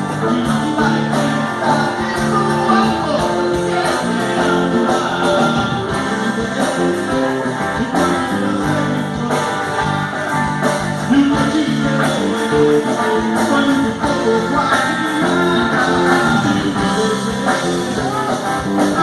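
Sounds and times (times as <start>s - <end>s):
guitar band music: 0.0s - 19.0s.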